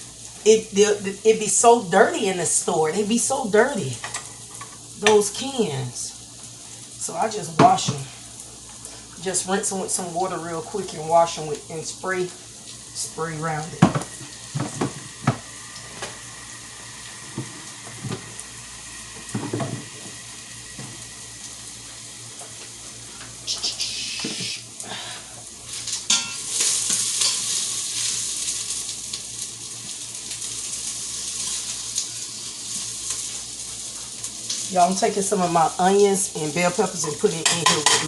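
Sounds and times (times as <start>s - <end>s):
steady hiss: 0.0s - 37.7s.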